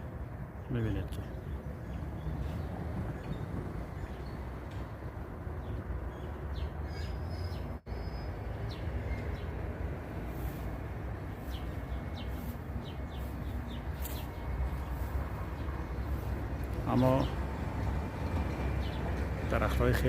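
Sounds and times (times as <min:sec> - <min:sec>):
small birds chirping: 0:00.5 - 0:20.0.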